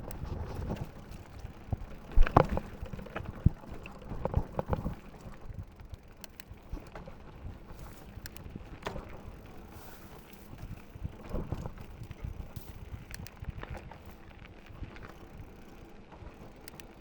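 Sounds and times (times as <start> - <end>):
mountain bike rattling and knocking: 0.0 - 17.0.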